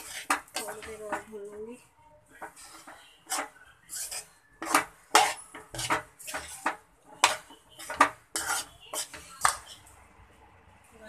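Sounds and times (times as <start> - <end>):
metal spatula scraping a pan: 0.0 - 1.5, 2.4 - 9.9.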